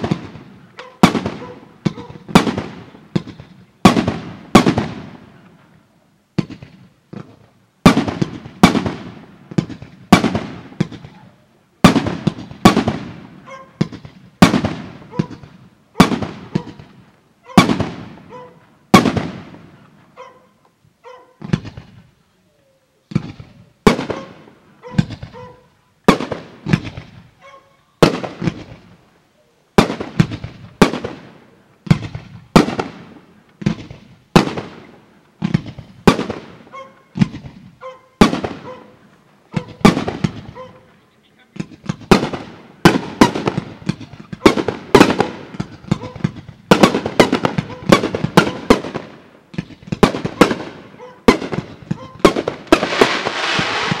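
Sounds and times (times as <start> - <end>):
fireworks bangs echoing: 0.0 - 5.8, 6.4 - 20.2, 21.4 - 22.1, 23.1 - 27.4, 28.0 - 29.0, 29.7 - 54.0.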